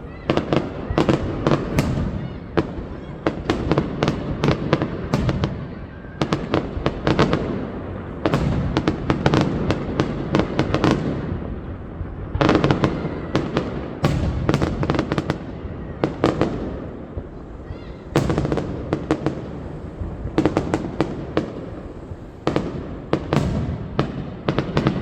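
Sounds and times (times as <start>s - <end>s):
fireworks cracking: 0.0s - 25.0s
fireworks rumbling boom: 0.0s - 25.0s.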